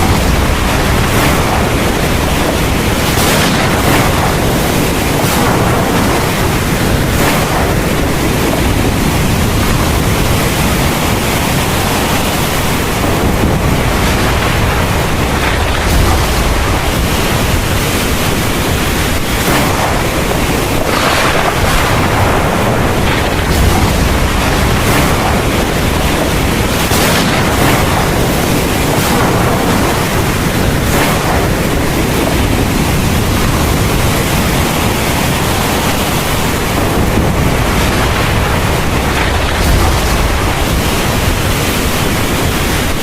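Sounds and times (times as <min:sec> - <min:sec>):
heavy rain pouring: 0:00.0 - 0:43.0
low rumble: 0:00.0 - 0:43.0
wind: 0:00.0 - 0:43.0.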